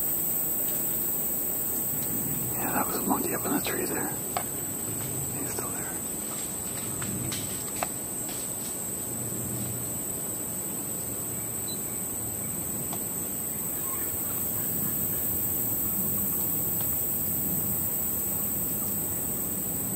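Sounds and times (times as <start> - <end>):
insects chirring: 0.0 - 19.9.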